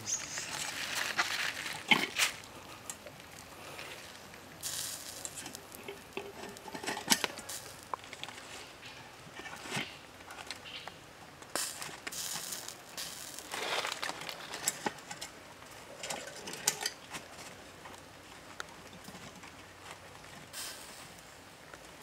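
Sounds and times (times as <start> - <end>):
fat sizzling on coals: 0.0 - 19.2, 19.8 - 22.0
embers crackling and popping: 0.0 - 22.0.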